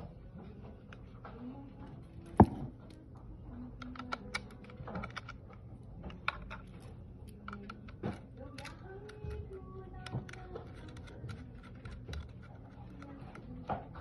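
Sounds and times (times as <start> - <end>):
small parts clicking and tapping: 0.0 - 14.0.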